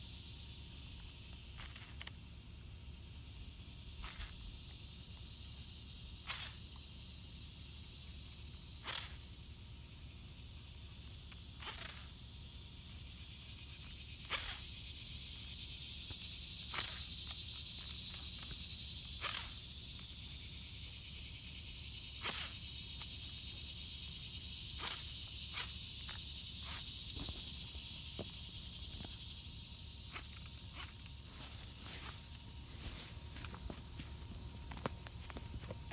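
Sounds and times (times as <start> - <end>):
high-pitched insect chorus: 0.0 - 35.9.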